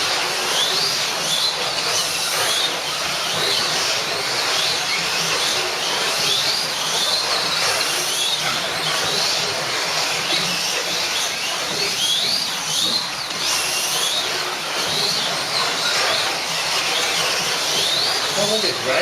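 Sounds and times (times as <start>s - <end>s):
hiss of slot cars on track: 0.0s - 19.0s
small electric motors whining: 0.0s - 19.0s.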